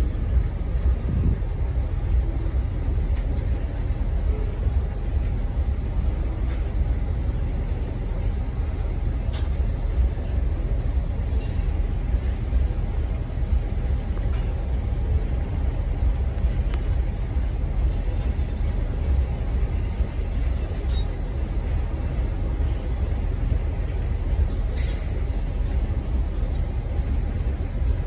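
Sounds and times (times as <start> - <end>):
freight train cars rolling: 0.0 - 28.0.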